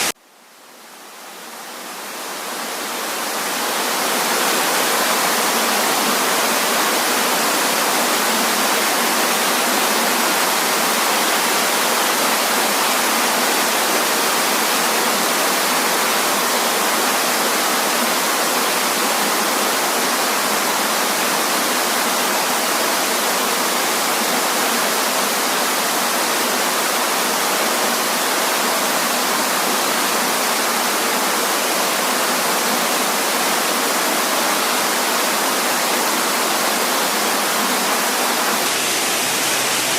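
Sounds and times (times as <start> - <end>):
waterfall rushing: 1.1 - 39.9.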